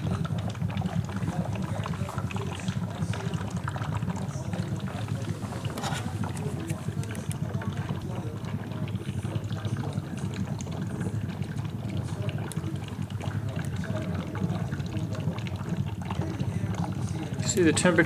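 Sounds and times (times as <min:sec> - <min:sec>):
gas bubbling through water: 0:00.0 - 0:18.0.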